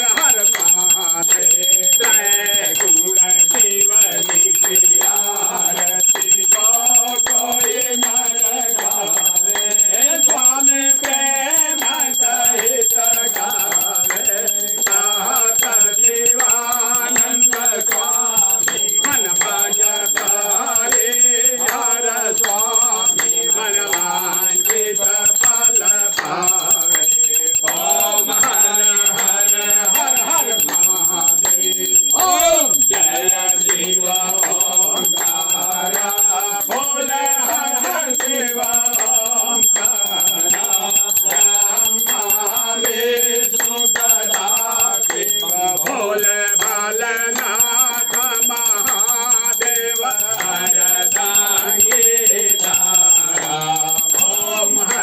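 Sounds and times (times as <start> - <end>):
group singing: 0.0 - 55.0
metal bell ringing: 0.0 - 55.0
rhythmic hand clapping: 0.0 - 55.0.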